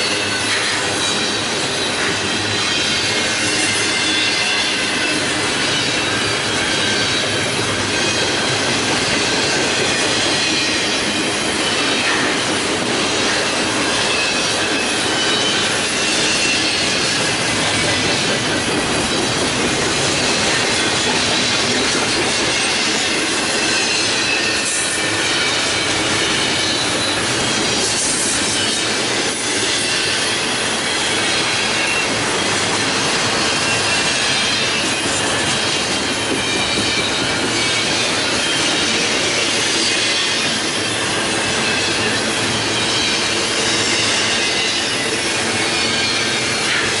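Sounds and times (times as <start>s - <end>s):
steel wheels rushing on rail: 0.0s - 47.0s.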